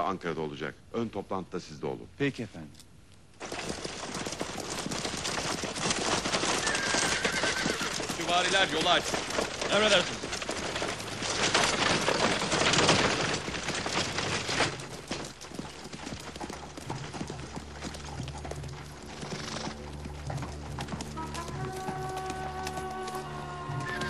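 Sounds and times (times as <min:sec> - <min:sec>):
horse hooves clattering: 0:03.4 - 0:24.0.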